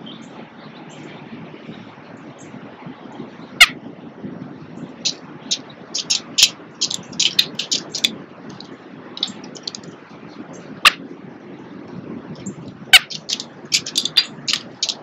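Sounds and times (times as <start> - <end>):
steady low background noise: 0.0 - 15.0.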